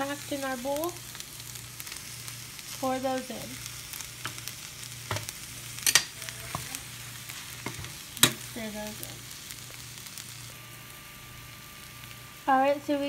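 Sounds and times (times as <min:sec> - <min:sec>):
food sizzling in a skillet: 0:00.0 - 0:13.0.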